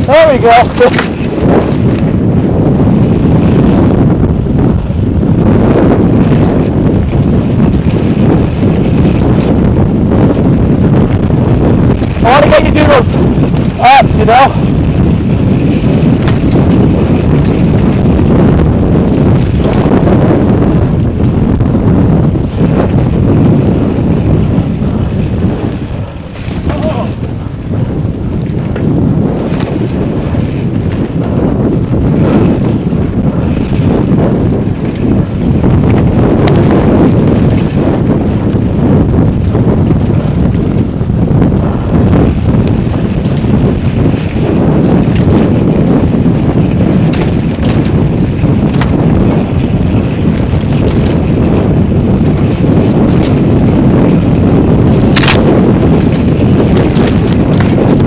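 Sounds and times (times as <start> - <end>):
bike rattling over rocky trail: 0.0 - 4.0, 5.5 - 11.0, 11.6 - 21.4, 22.1 - 27.4, 28.0 - 40.9, 41.9 - 58.0
wind buffeting microphone: 0.0 - 58.0.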